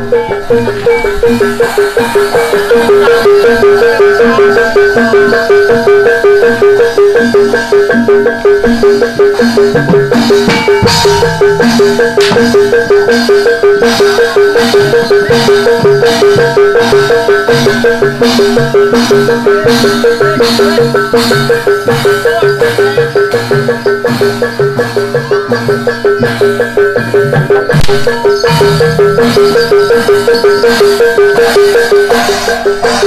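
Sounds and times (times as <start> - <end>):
gamelan ensemble drums and percussion: 0.0 - 33.0.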